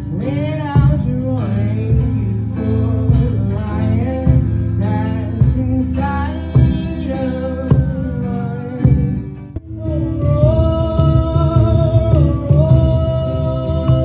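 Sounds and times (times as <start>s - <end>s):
song with guitar and singing: 0.0s - 14.0s.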